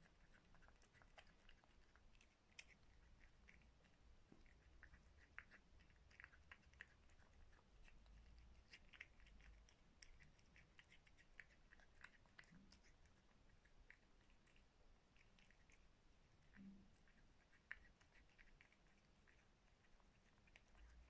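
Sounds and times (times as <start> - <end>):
cat chewing wetly: 0.0 - 21.0.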